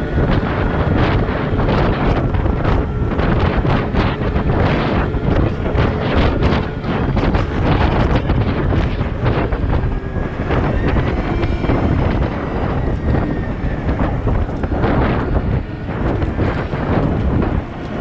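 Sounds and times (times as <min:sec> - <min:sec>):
heavy machine engine running: 0:00.0 - 0:18.0
wind buffeting microphone: 0:00.0 - 0:18.0.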